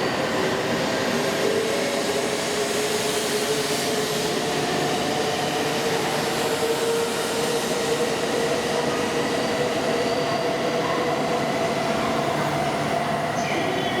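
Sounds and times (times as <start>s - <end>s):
train rumble and rush: 0.0s - 14.0s.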